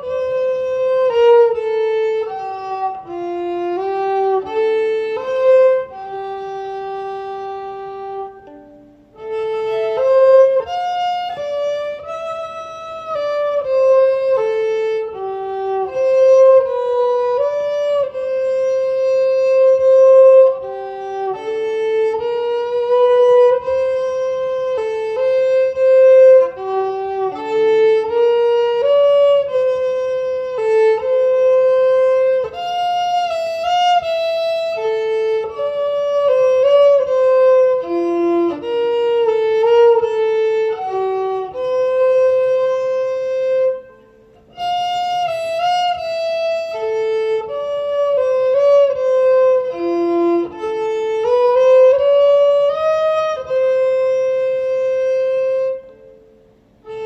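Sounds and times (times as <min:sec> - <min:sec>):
solo violin melody: 0:00.0 - 0:57.0.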